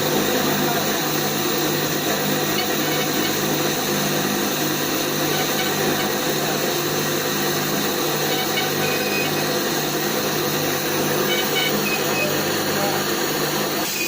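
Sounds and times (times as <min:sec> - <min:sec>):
machine motor humming: 0:00.0 - 0:14.0.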